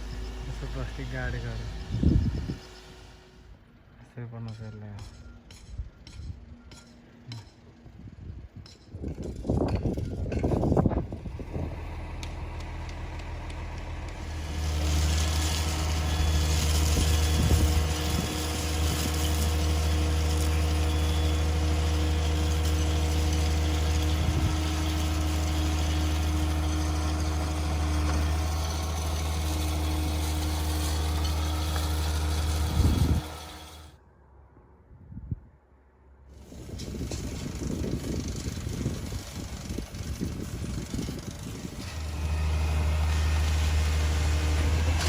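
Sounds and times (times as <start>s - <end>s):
heavy machine engine running: 0.0s - 3.8s, 9.9s - 34.0s, 36.4s - 45.0s.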